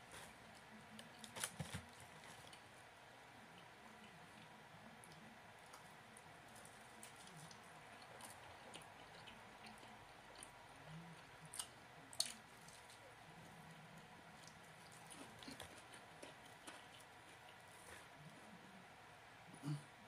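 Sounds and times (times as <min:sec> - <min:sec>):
close-up chewing: 0:00.0 - 0:18.6.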